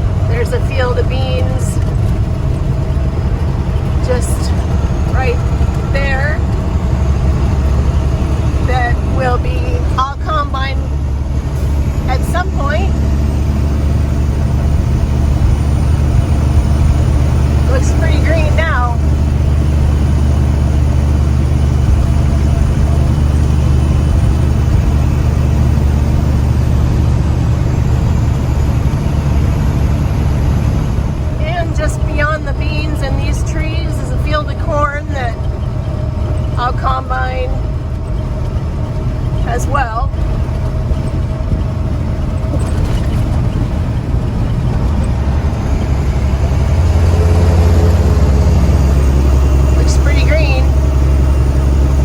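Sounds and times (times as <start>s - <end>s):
engine and road rumble: 0.0s - 52.0s.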